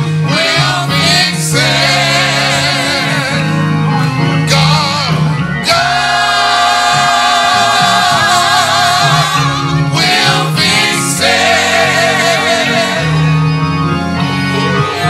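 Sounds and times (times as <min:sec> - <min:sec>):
gospel choir singing: 0:00.0 - 0:15.0.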